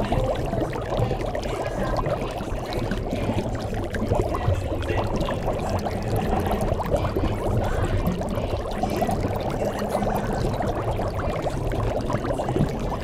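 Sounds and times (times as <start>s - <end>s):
running water pouring: 0.0s - 13.0s.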